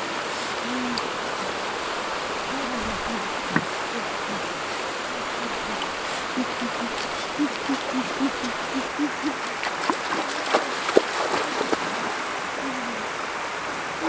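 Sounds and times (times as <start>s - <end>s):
river running over stones: 0.0s - 14.0s.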